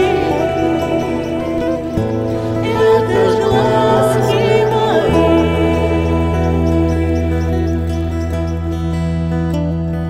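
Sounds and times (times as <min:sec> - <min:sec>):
steady low drone: 0:00.0 - 0:09.9
music with long held notes: 0:00.0 - 0:10.0.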